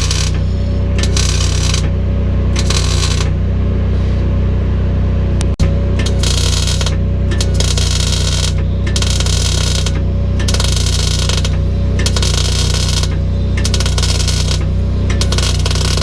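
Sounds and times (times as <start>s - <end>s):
welding arc crackling: 0.0s - 3.4s, 5.4s - 16.0s
steady low hum: 0.0s - 16.0s.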